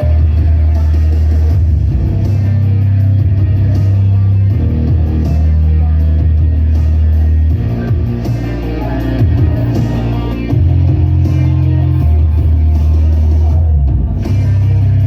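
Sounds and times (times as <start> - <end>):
heavy bass line: 0.0 - 15.0.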